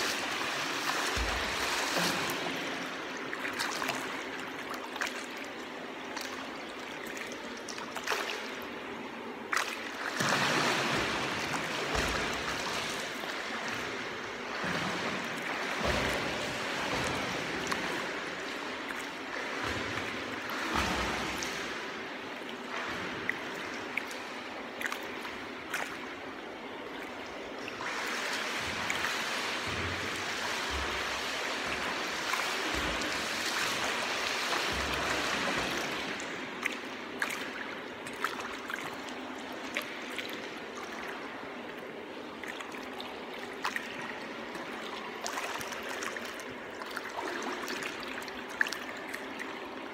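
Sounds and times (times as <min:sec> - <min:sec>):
pool water splashing: 0:00.0 - 0:49.9
water churning: 0:00.0 - 0:49.9.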